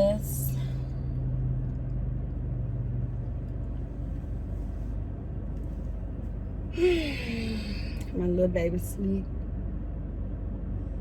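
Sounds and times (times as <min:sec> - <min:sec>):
car rumble inside cabin: 0:00.0 - 0:11.0
low hum: 0:00.0 - 0:11.0.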